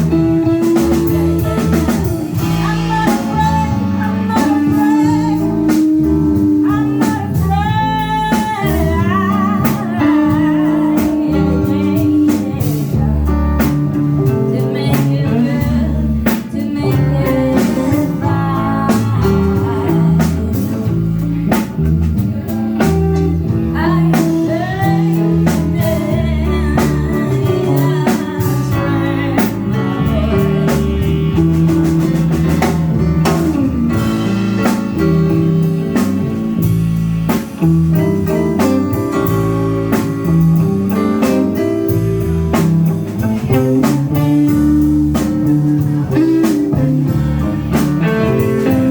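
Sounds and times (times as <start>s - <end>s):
blues band playing: 0.0s - 48.9s
drum kit: 0.0s - 48.9s
electric guitar: 0.0s - 48.9s.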